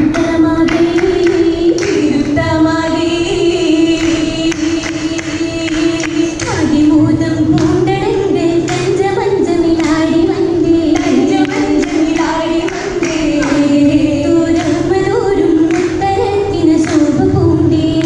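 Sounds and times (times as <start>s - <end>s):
rhythmic hand claps: 0.0s - 18.0s
young women singing together: 0.0s - 18.0s.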